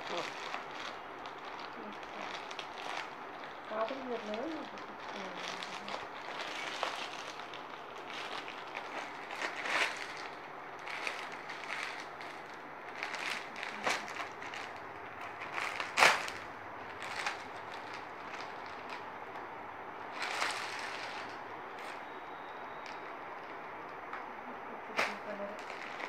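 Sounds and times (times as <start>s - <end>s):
plastic packaging crinkling: 0.0s - 24.1s, 24.9s - 26.0s
sharp plastic crackle: 0.0s - 24.3s, 24.9s - 26.0s.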